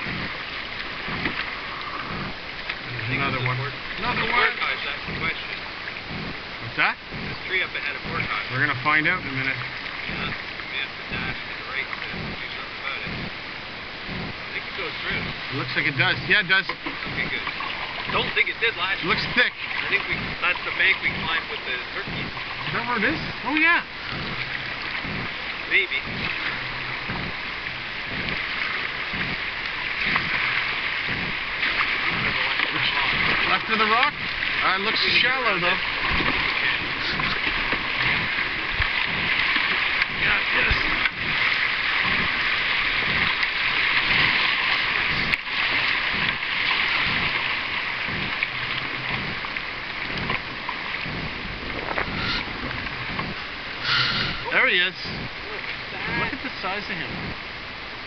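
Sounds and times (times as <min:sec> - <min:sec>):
soft low thumps: 0:00.0 - 0:04.4, 0:05.0 - 0:10.4, 0:12.0 - 0:17.5, 0:21.9 - 0:34.5, 0:35.8 - 0:44.4, 0:46.0 - 0:57.8
river water rushing over riffle: 0:00.0 - 0:58.0.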